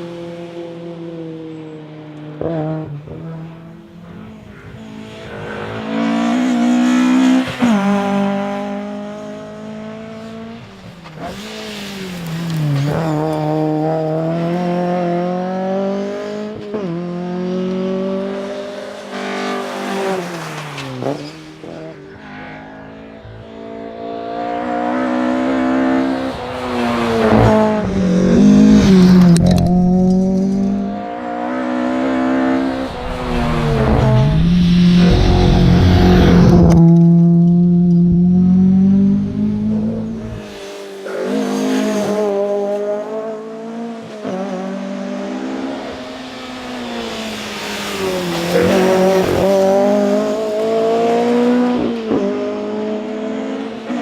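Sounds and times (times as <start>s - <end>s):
car engine revving: 2.4s - 53.6s.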